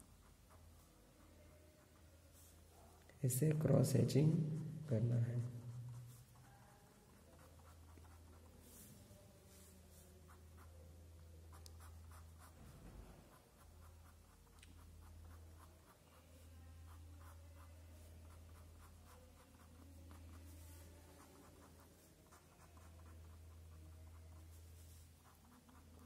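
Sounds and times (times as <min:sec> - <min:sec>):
low steady hum: 0:00.0 - 0:26.0
pen scratching on paper: 0:04.3 - 0:26.0.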